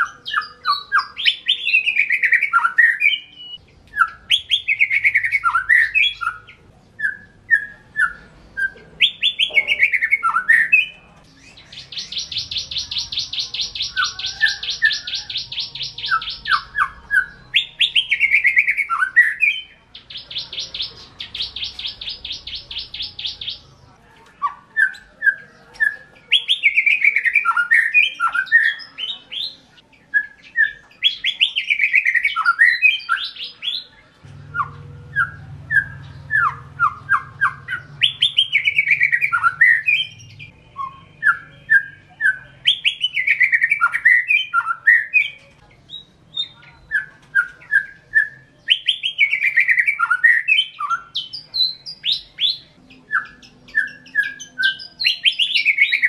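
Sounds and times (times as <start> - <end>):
songbird singing whistled phrases: 0.0 - 23.7, 24.4 - 56.0.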